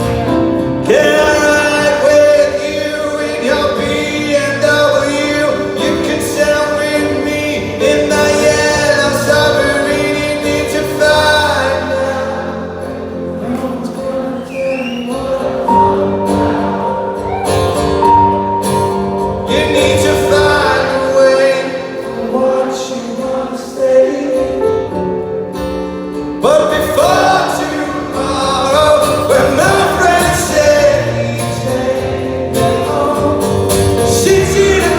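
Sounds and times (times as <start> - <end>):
person singing: 0.0 - 25.3, 26.4 - 34.9
acoustic band playing: 0.0 - 34.9.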